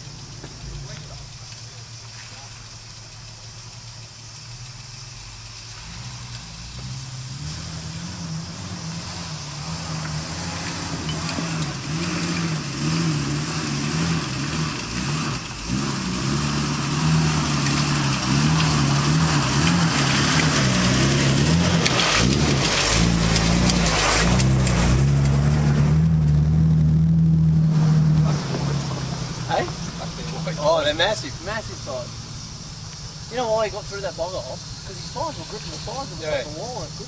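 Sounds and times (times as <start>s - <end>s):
off-road vehicle engine: 0.0s - 37.0s.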